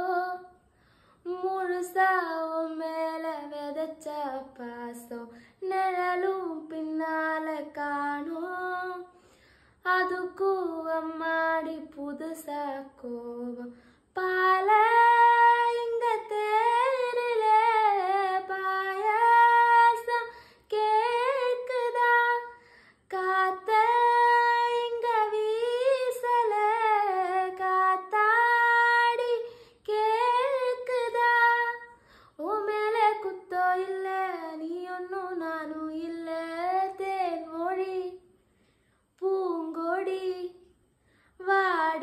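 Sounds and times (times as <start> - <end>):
woman singing unaccompanied: 0.0 - 0.6, 1.2 - 9.2, 9.8 - 38.2, 39.2 - 40.7, 41.4 - 42.0.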